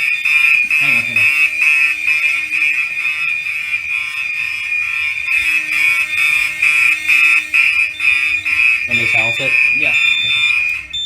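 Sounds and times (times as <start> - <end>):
high-pitched electronic fire alarm: 0.0 - 11.0.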